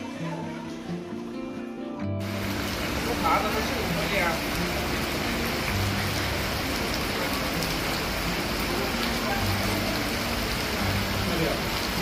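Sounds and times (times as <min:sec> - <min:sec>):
heavy rain on flood water: 0:02.2 - 0:12.0.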